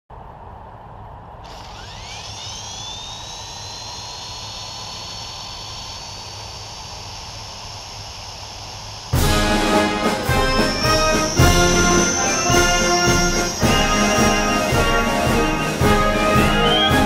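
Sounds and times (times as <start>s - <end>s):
electric motor and rotor whine: 0.8s - 17.0s.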